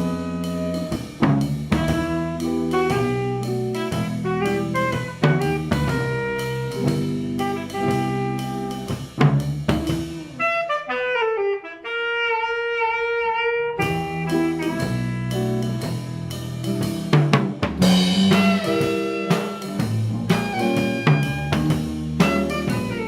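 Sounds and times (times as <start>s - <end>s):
wind instrument with vibrato: 0.0s - 9.1s, 9.9s - 16.0s, 17.8s - 23.0s
live band with drum kit: 0.0s - 23.0s.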